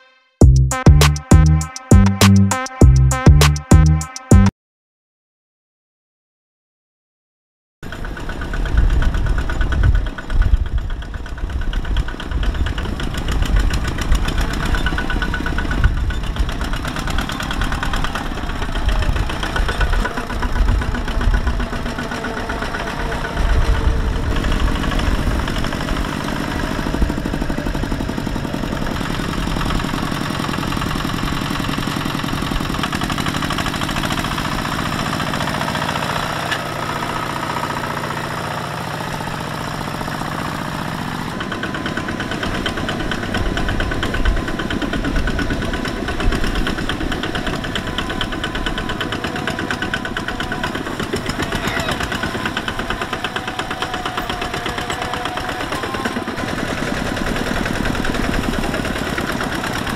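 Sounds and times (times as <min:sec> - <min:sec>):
diesel tractor engines chugging: 0:07.9 - 0:59.9.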